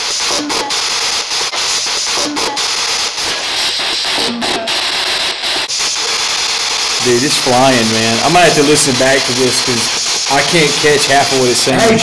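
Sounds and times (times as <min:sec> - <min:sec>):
snatches of guitar music: 0:00.0 - 0:11.6
radio static sweeping: 0:00.0 - 0:12.0.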